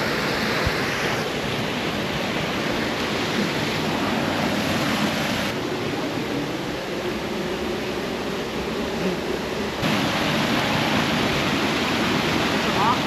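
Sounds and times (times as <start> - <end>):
stream and waterfall rushing: 0.0 - 13.0.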